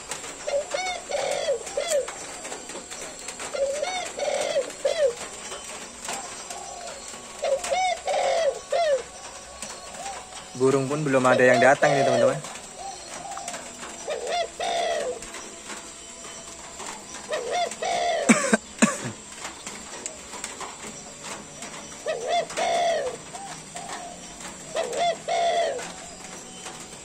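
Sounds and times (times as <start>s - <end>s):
dove cooing: 0.0s - 27.0s.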